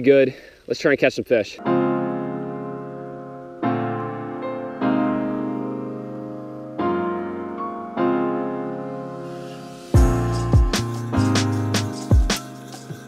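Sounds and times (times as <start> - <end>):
piano chords: 1.6 - 13.0.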